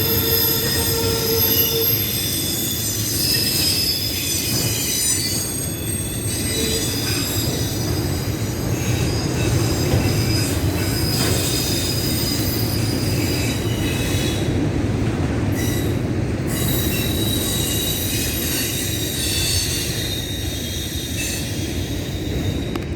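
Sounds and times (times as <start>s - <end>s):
train rumbling past: 0.0s - 22.9s
wheels squealing on rails: 0.0s - 22.9s.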